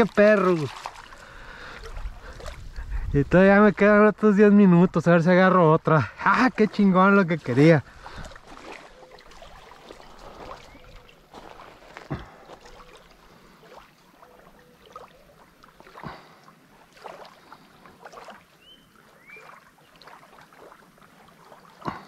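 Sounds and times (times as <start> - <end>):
small waves lapping on gravel: 0.0 - 3.9, 6.1 - 22.0.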